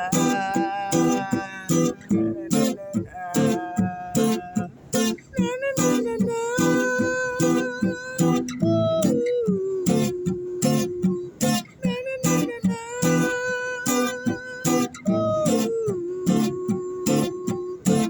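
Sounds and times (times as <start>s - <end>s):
acoustic guitar strumming: 0.0s - 18.0s
person singing wordless held notes: 0.0s - 18.0s.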